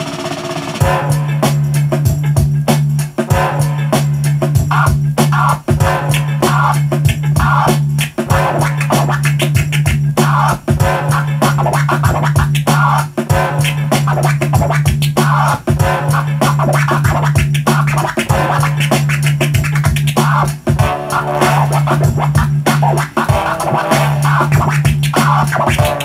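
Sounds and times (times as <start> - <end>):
vinyl record scratching: 0.1 - 26.0.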